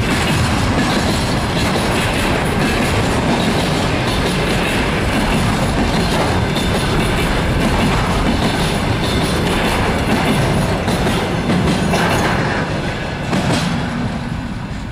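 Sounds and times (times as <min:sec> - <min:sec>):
freight train rumbling past: 0:00.0 - 0:14.9
wheels clattering on rails: 0:00.0 - 0:14.9.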